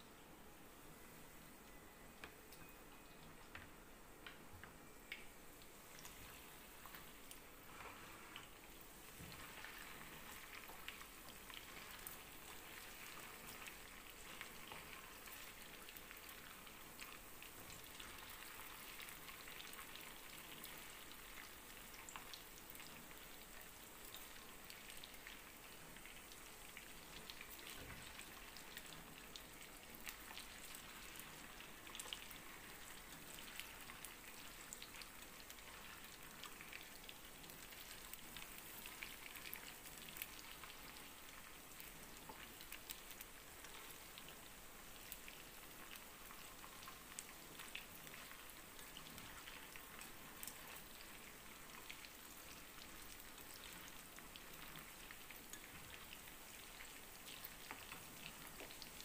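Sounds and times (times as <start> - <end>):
meatballs sizzling in oil: 2.3 - 59.0.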